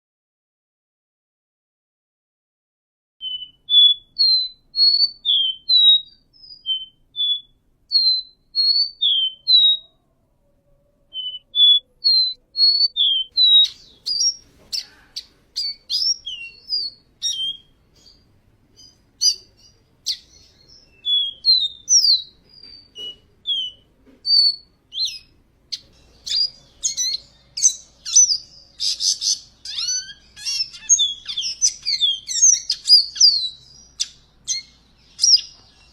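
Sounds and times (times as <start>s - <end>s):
bird singing whistled notes: 3.2s - 10.0s, 11.1s - 35.9s.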